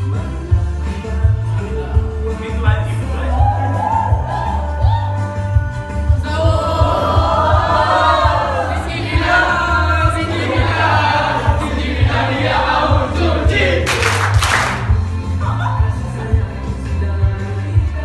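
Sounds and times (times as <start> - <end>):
pop dance music with vocals: 0.0 - 14.0, 14.7 - 18.0.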